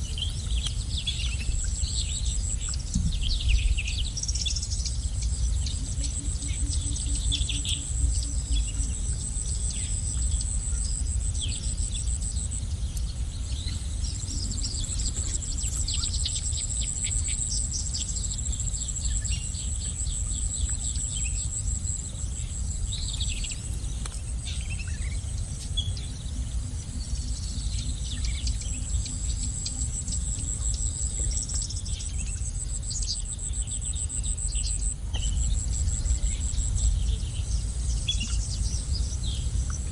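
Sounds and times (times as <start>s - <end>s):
insect trill: 0.0s - 39.9s
low background rumble: 0.0s - 39.9s
songbirds chirping: 0.0s - 39.9s.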